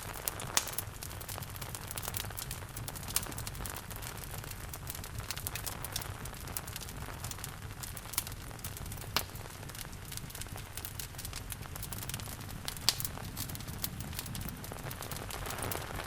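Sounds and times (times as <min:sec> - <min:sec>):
loud fire snaps: 0:00.0 - 0:16.0
wood fire crackling and popping: 0:00.0 - 0:16.0.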